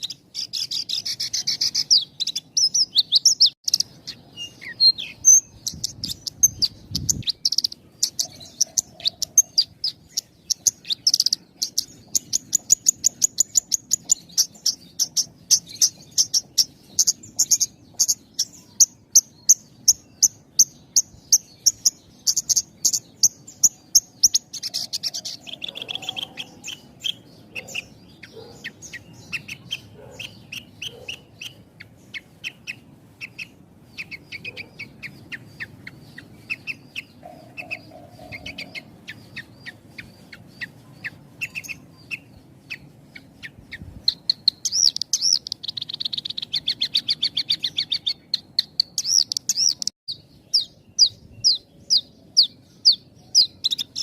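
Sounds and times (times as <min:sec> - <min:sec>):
bird singing high sharp chirps: 0:00.0 - 0:54.0.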